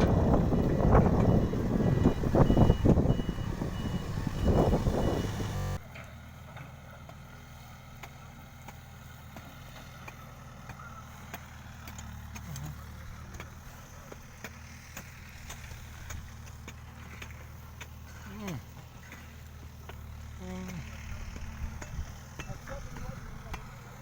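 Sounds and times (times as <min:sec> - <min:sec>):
diesel engine low drone: 0:00.0 - 0:24.0.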